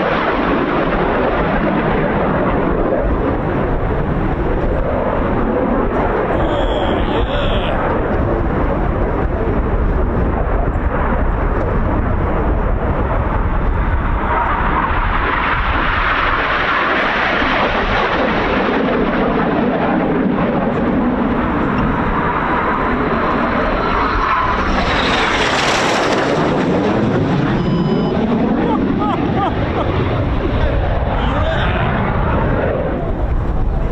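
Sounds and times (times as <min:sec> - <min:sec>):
jets flying past: 0:00.0 - 0:33.9.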